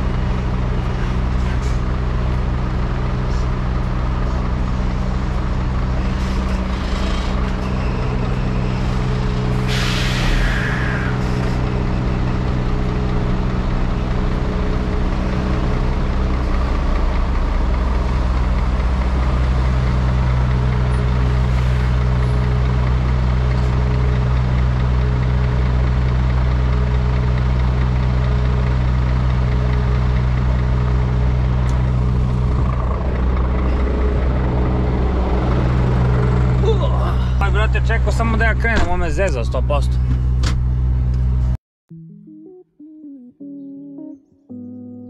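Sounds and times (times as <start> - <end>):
truck diesel engine low revs: 0.0 - 41.6.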